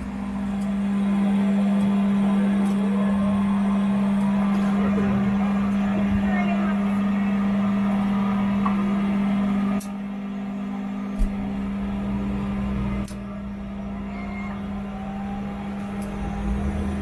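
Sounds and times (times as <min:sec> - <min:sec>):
turboprop engine spooling up: 0:00.0 - 0:17.0.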